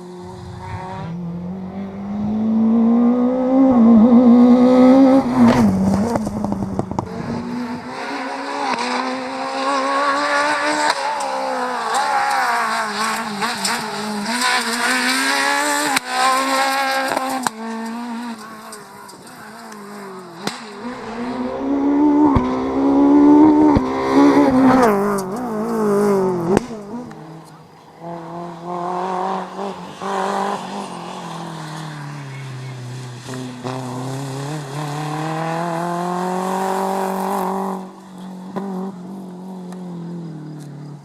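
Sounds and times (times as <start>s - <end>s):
rally car engine revving: 0.0s - 41.0s.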